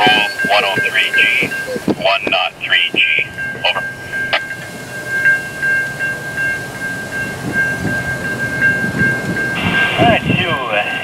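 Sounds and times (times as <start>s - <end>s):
railway crossing bell ringing: 0.0s - 11.0s.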